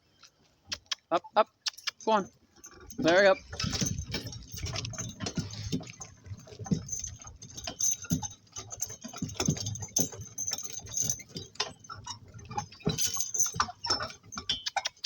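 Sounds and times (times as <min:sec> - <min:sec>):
harness hardware jingling: 0:01.7 - 0:15.0
cart clicks and knocks: 0:02.6 - 0:15.0.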